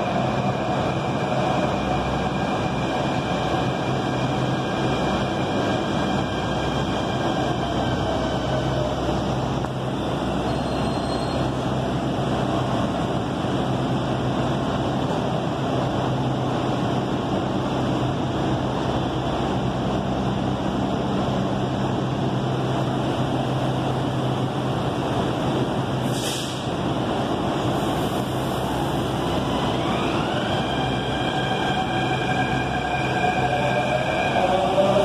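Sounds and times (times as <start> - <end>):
train mechanical hum: 0.0 - 35.0.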